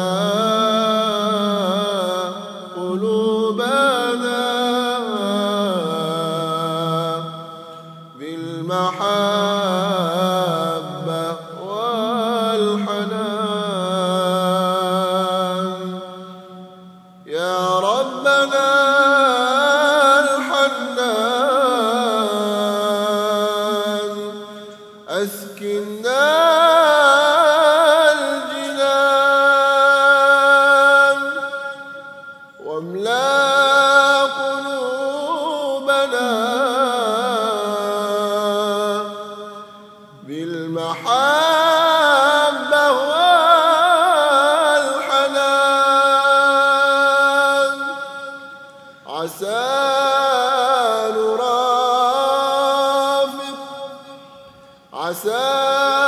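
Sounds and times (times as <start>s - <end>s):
person singing devotional chant: 0.0s - 56.0s.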